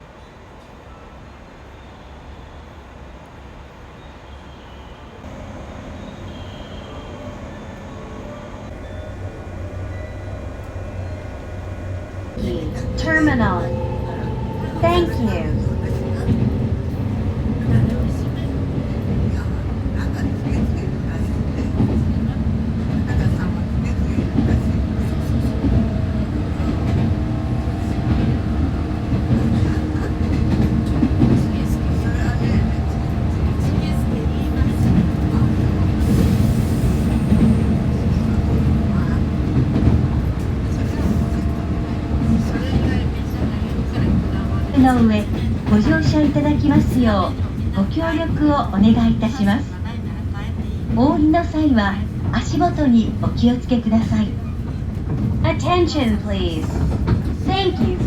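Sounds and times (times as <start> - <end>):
train running with low rumble: 0.0 - 58.0.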